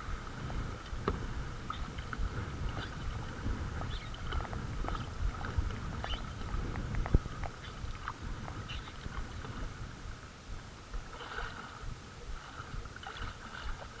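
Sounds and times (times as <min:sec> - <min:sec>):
paddle splashing in water: 0:00.0 - 0:10.0, 0:10.9 - 0:14.0
low rumble: 0:00.0 - 0:14.0
water washing along hull: 0:00.0 - 0:14.0.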